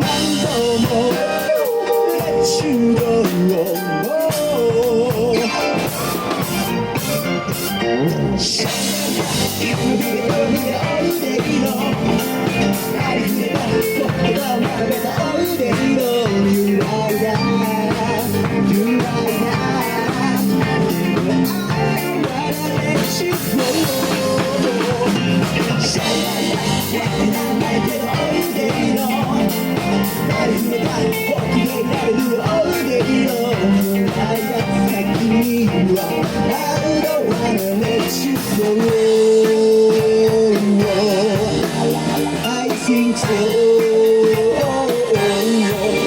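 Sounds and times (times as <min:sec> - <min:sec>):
drum kit beat: 0:00.0 - 0:46.0
electric guitar: 0:00.0 - 0:46.0
rock band playing: 0:00.0 - 0:46.0.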